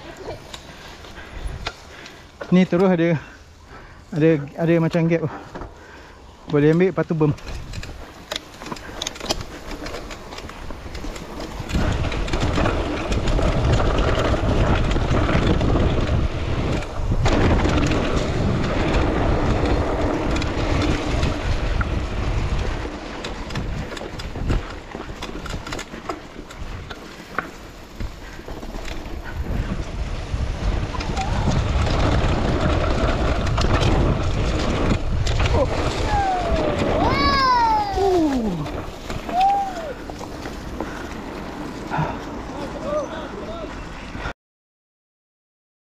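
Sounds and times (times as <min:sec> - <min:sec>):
wind buffeting microphone: 0:00.0 - 0:02.4, 0:07.3 - 0:44.3
bike rattling over bumps: 0:00.0 - 0:44.3.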